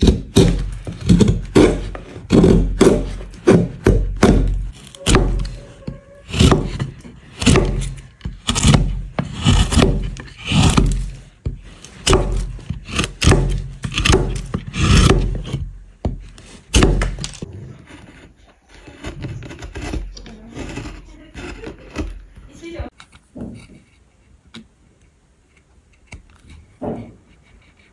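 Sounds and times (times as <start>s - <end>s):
chisel scraping wood: 0.0s - 24.3s, 25.6s - 27.9s.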